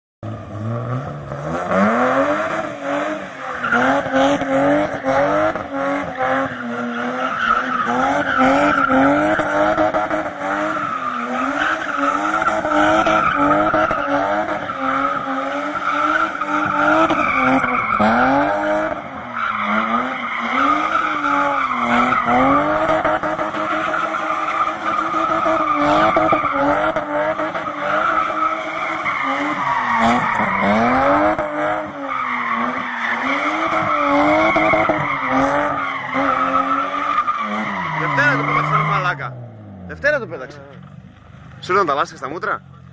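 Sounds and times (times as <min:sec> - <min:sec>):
car engine revving: 0:00.2 - 0:42.9
tyres squealing: 0:03.4 - 0:40.8.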